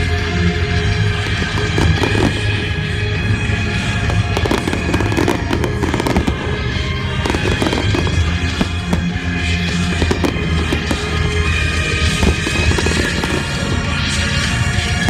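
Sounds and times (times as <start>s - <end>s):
fireworks bursting and crackling: 0.0s - 15.0s
loud steady music: 0.0s - 15.0s.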